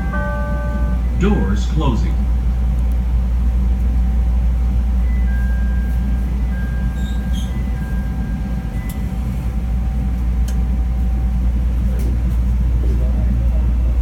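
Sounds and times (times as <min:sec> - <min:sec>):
train equipment rumble: 0:00.0 - 0:14.0.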